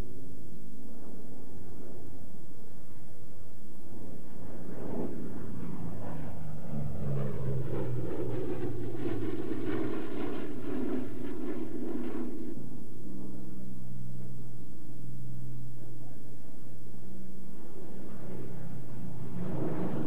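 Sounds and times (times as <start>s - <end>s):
propeller plane engines droning: 0.0s - 20.0s.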